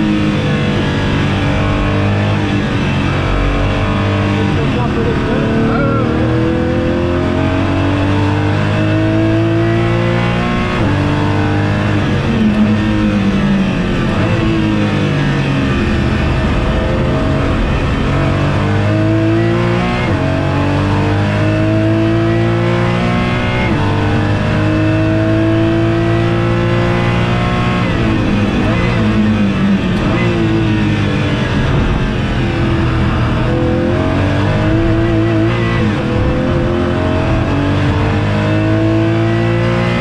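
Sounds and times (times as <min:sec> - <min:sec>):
car engine accelerating through gears: 0:00.0 - 0:40.0.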